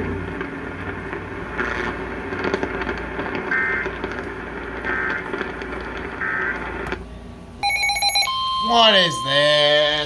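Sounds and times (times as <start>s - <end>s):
low hum with radio static: 0.0s - 10.0s.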